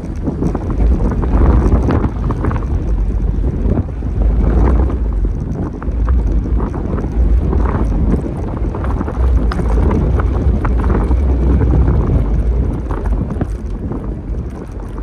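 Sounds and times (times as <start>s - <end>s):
light clicks and rattles: 0.0s - 15.0s
wind buffeting microphone: 0.0s - 15.0s.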